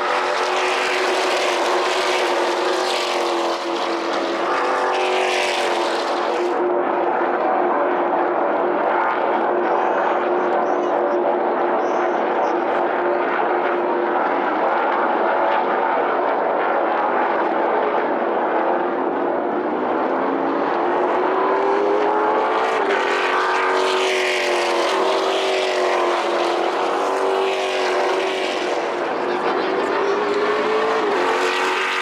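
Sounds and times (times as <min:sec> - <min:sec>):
race car engines passing: 0:00.0 - 0:32.0.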